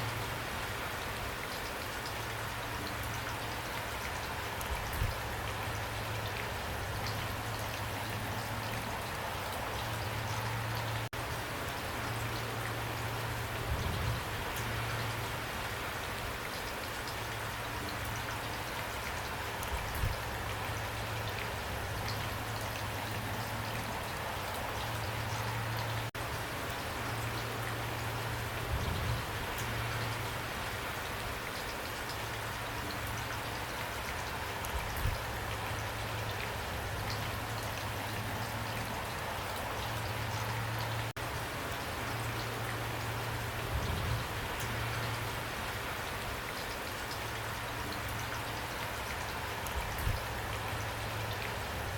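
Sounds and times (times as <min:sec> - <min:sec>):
pouring rain: 0:00.0 - 0:51.9.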